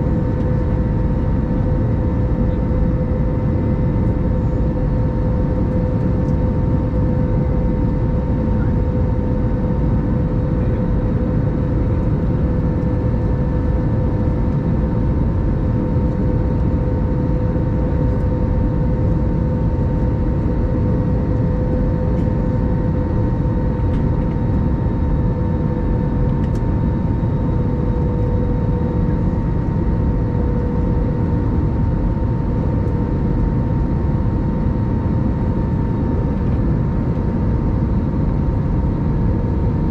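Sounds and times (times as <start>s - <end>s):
airliner cabin airflow and engine noise: 0.0s - 39.9s
constant hum: 0.0s - 39.9s.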